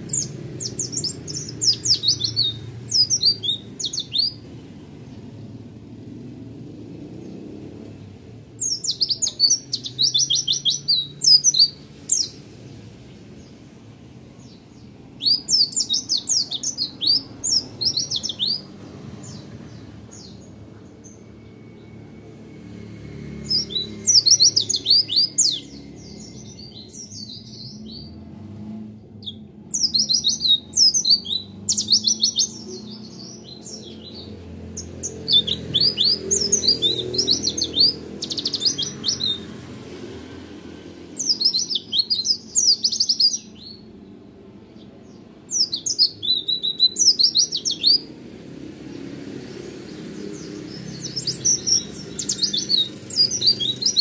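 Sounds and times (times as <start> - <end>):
bird chirping and trilling: 0.0 - 5.2, 8.5 - 12.5, 14.4 - 28.2, 29.2 - 39.6, 41.1 - 43.9, 45.0 - 48.2, 49.7 - 54.0.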